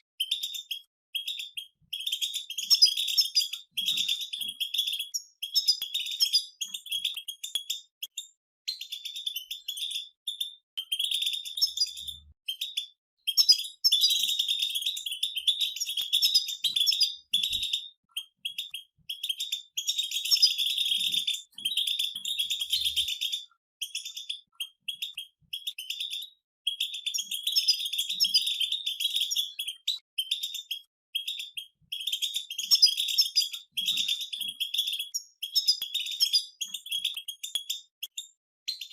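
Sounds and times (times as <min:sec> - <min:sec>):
finches twittering: 0:00.3 - 0:08.2, 0:08.8 - 0:37.6.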